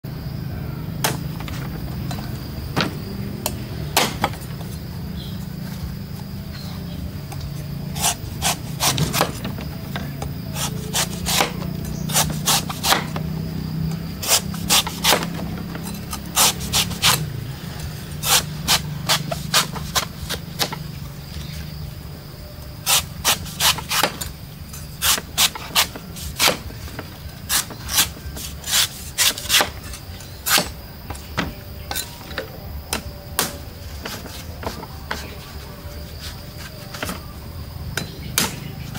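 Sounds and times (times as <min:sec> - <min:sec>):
cleaver chopping coconut husk: 0:00.9 - 0:04.9, 0:07.2 - 0:21.8, 0:22.6 - 0:38.9.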